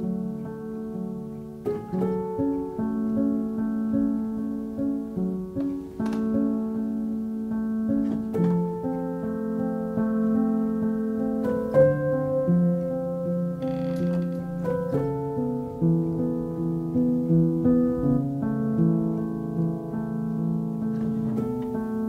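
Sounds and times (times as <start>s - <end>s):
piano piece: 0.0s - 22.0s.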